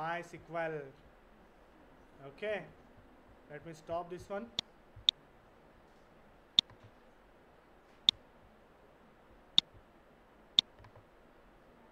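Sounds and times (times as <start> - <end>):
faint steady hiss: 0.0 - 11.9.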